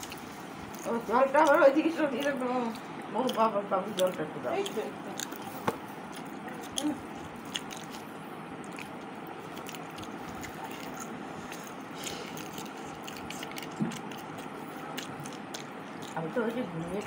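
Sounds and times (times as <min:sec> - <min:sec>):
person chewing with mouth clicks: 0:00.0 - 0:17.0.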